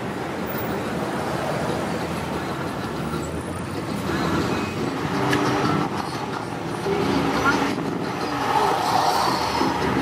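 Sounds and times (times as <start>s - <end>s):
road traffic: 0.0s - 10.0s.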